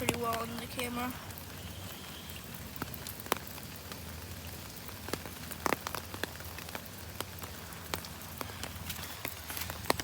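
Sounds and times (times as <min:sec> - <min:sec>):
sharp taps of large raindrops: 0:00.0 - 0:10.0
steady rain falling: 0:00.0 - 0:10.0.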